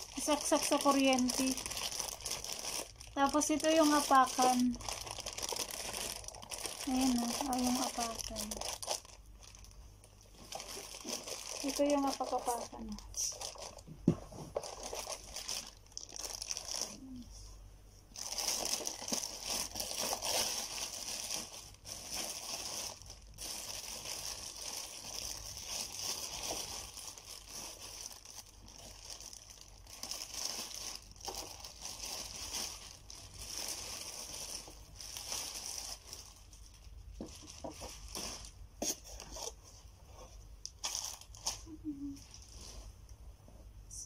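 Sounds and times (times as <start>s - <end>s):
plastic bag crinkling: 0.0s - 17.3s, 18.1s - 39.7s, 40.6s - 42.8s.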